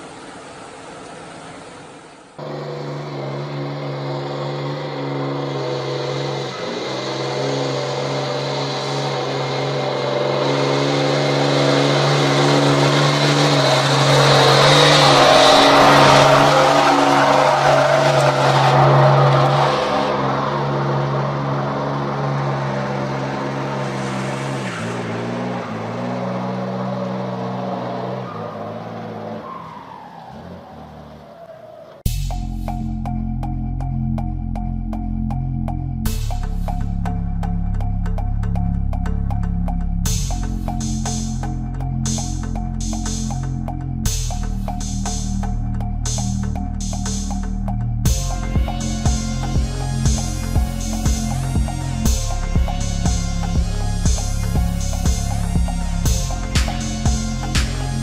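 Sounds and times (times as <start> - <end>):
vehicle engine running hard: 0.0 - 31.2, 32.0 - 58.0.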